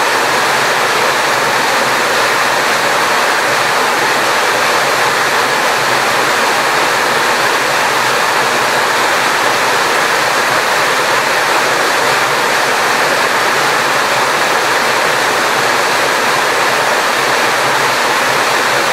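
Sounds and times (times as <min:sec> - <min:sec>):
water rushing: 0:00.0 - 0:18.9.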